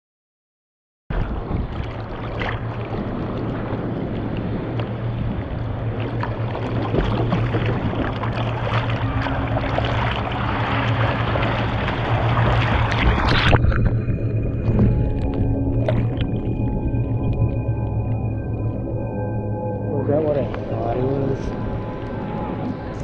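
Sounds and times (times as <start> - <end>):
low rumble: 1.1 - 23.0
water sloshing and splashing: 1.1 - 23.0.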